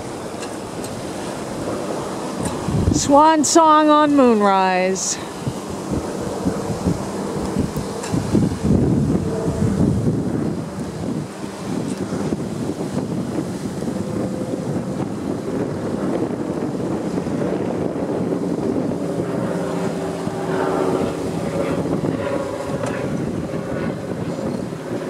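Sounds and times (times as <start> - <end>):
water rushing past hull: 0.0 - 25.0
wind buffeting microphone: 0.0 - 25.0.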